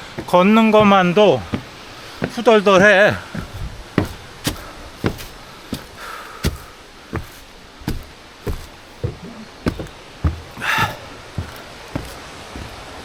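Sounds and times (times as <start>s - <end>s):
footsteps on hard surface: 0.1s - 13.0s.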